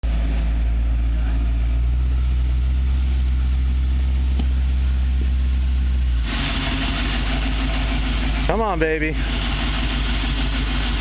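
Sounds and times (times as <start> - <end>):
car engine rumbling at low revs: 0.0 - 11.0.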